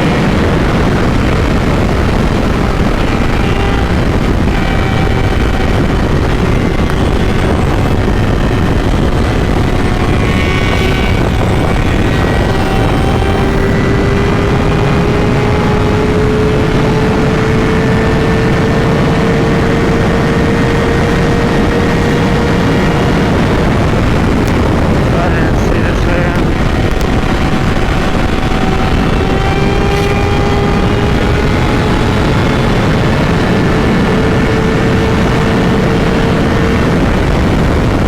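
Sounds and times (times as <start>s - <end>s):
heavy wind on microphone: 0.0s - 38.0s
motorcycle engine running: 0.0s - 38.0s.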